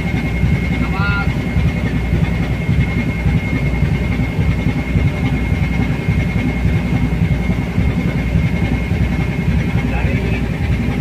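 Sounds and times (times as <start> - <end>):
ship engine rumbling: 0.0 - 11.0.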